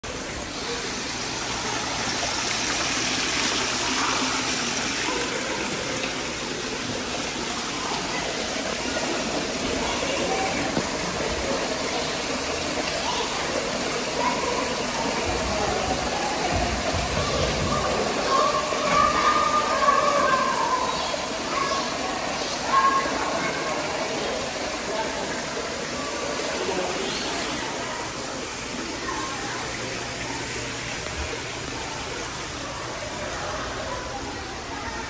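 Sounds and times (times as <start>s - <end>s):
waterfall splashing into pool: 0.0s - 35.0s.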